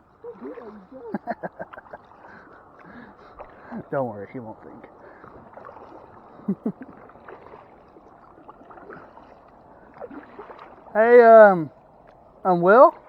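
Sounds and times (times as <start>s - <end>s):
paddle dips: 0.0s - 13.0s
water lapping: 0.0s - 13.0s.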